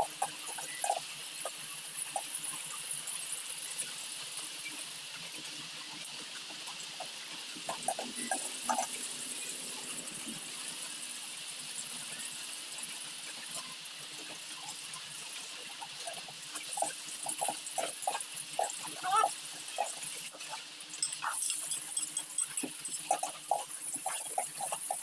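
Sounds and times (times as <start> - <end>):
ginger sizzling in hot oil: 0.0 - 25.0.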